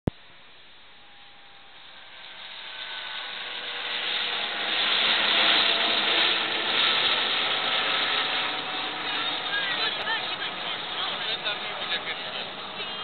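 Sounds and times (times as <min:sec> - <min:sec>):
helicopter rotor and engine: 0:00.9 - 0:13.0.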